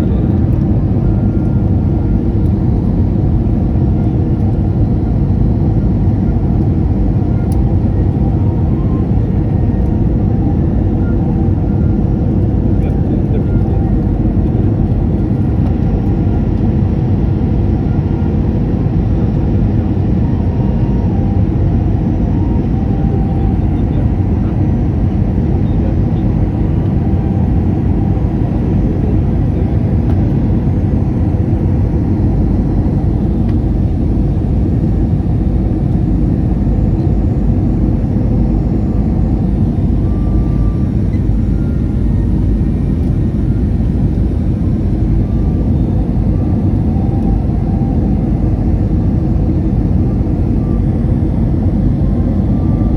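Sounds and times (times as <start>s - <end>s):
airliner cabin engine rumble: 0.0s - 52.9s.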